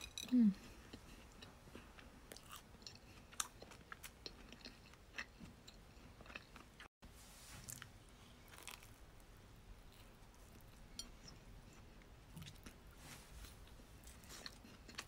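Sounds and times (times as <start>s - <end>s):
faint chewing: 0.0s - 6.9s, 7.6s - 9.0s, 9.8s - 15.0s.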